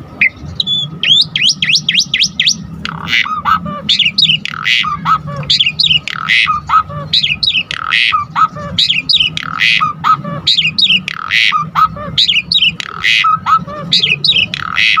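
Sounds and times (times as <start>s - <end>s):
starling singing: 0.0s - 15.0s.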